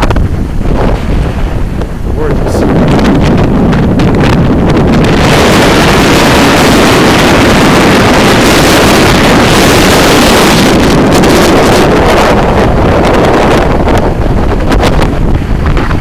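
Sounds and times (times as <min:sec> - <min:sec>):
waves breaking on shore: 0:00.0 - 0:16.0
wind buffeting microphone: 0:00.0 - 0:16.0.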